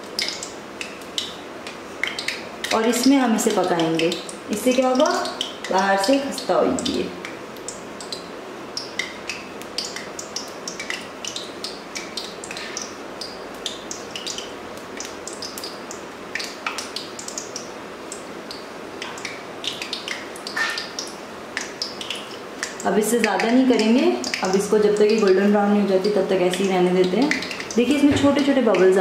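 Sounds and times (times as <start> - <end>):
oil popping and crackling: 0.0 - 29.0
pastries sizzling in oil: 0.0 - 29.0.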